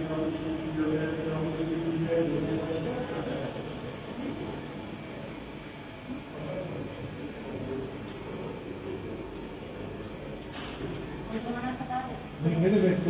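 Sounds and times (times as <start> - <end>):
high-pitched whine: 0.0 - 13.0
low machine hum: 0.0 - 13.0.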